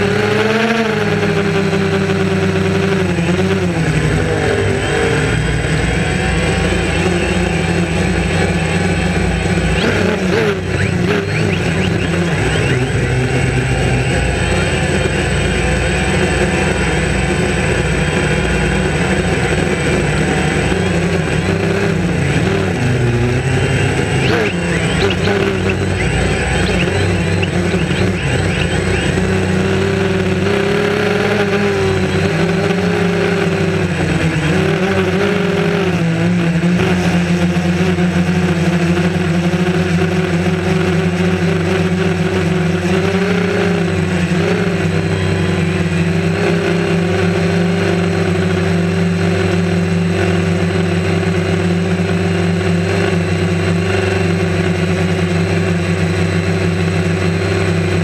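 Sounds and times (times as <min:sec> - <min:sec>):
drone propellers whirring: 0:00.0 - 0:58.0.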